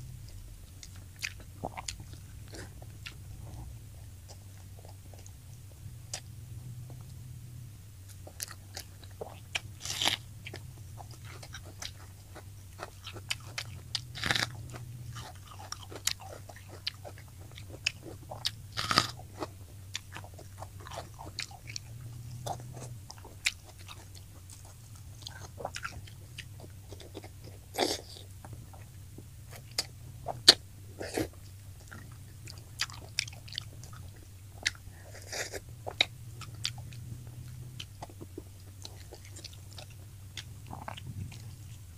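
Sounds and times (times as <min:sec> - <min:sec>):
low steady hum: 0:00.0 - 0:41.9
person chewing crunchy food: 0:00.0 - 0:41.9.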